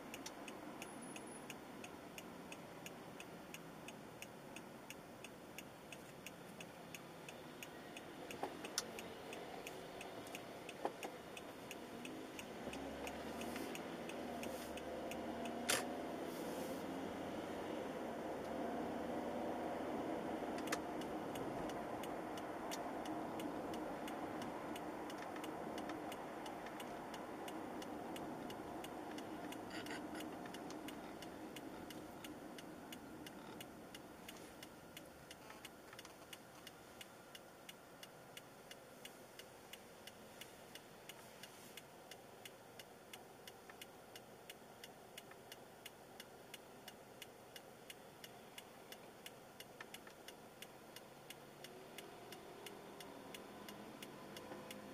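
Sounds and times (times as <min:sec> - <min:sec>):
road and engine noise inside car: 0:00.0 - 0:54.9
turn signal ticking: 0:00.0 - 0:54.9.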